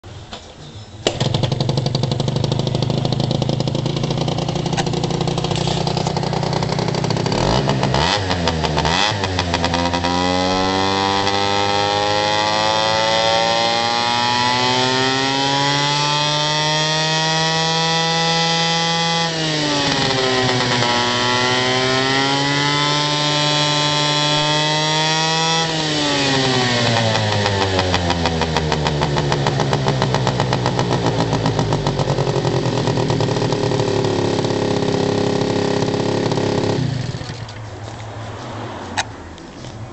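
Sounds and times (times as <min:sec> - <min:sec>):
scooter engine revving: 0:01.0 - 0:37.7.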